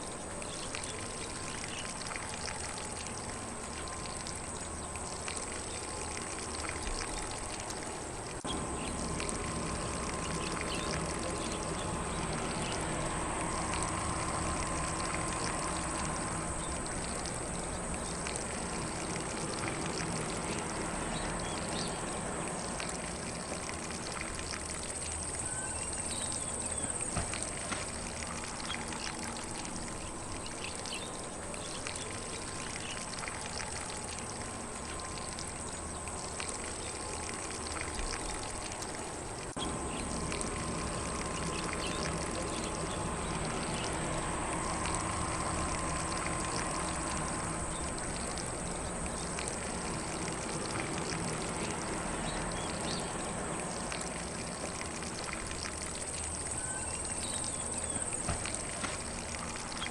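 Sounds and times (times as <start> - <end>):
lawn sprinkler spraying water: 0.0 - 59.9.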